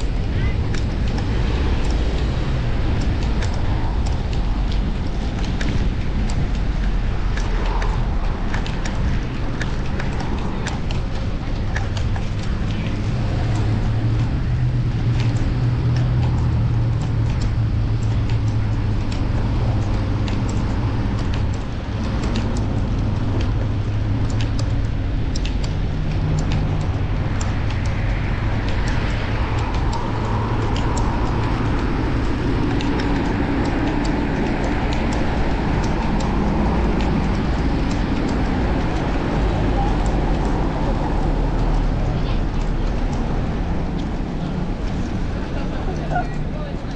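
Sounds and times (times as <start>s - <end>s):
bicycle ticks and rattles: 0.0s - 46.9s
passing traffic: 0.0s - 46.9s
wind and road noise rumble: 0.0s - 46.9s.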